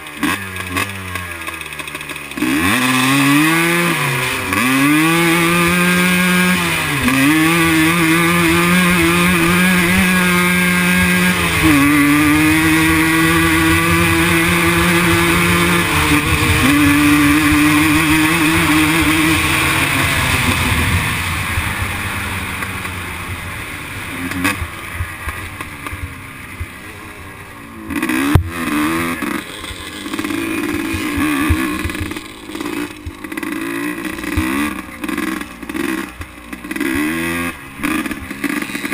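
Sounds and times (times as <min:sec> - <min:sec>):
quad bike engine accelerating: 0:00.0 - 0:38.9.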